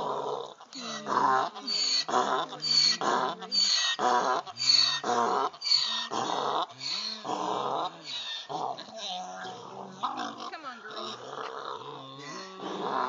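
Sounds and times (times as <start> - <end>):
donkey braying: 0.6 - 11.6.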